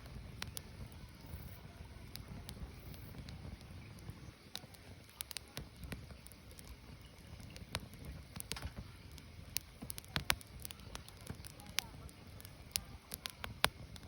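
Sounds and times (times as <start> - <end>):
low steady fire rumble: 0.0 - 14.0
wood fire crackling and popping: 0.0 - 14.0.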